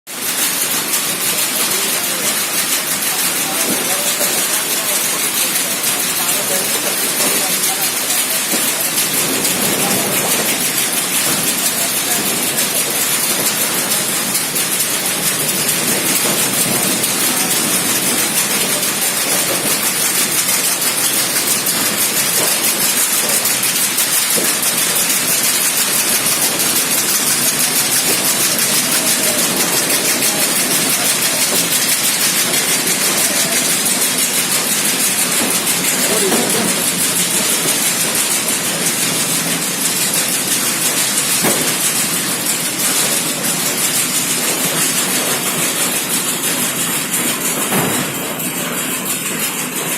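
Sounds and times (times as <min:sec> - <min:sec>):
rapid ticking and rattling: 0:00.1 - 0:49.9.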